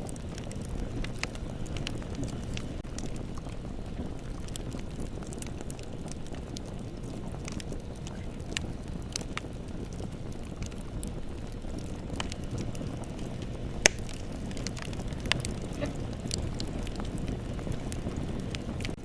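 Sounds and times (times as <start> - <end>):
bonfire rumbling: 0.0 - 19.0
fire crackles and pops: 0.0 - 19.0.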